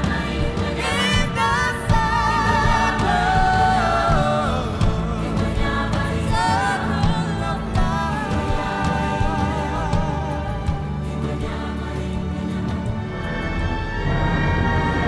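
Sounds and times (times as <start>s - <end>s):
male and female soloists singing: 0.0s - 14.5s
choir singing: 0.0s - 15.0s
instrumental backing: 0.0s - 15.0s.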